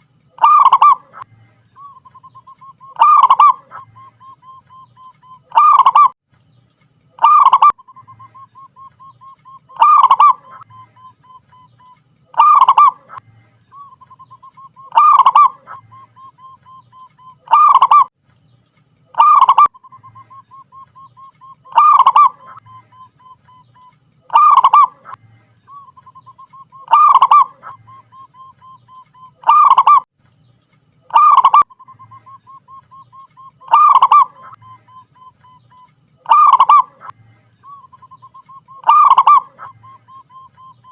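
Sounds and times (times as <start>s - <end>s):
dove cooing: 0.4s - 6.2s, 7.2s - 13.2s, 13.8s - 18.1s, 19.1s - 30.1s, 31.1s - 40.9s.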